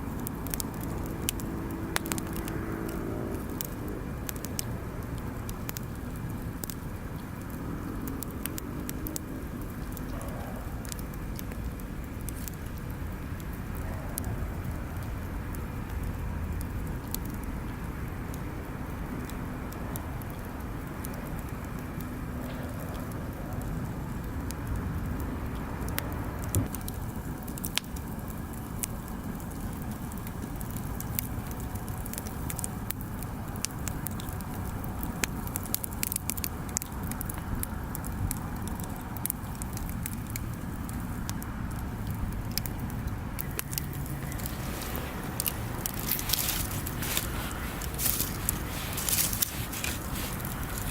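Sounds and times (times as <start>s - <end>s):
bonfire crackling and popping: 0.0s - 50.9s
fire low rumble: 0.0s - 50.9s.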